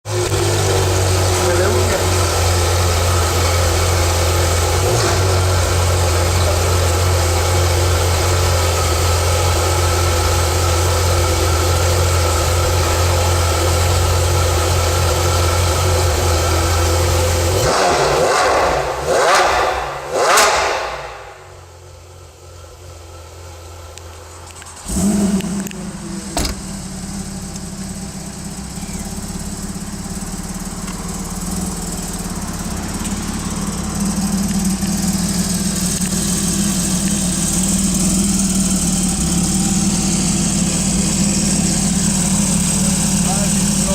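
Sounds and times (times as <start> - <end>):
car engine revving: 0.0 - 21.9, 24.3 - 43.9
car engine idling: 0.0 - 43.9.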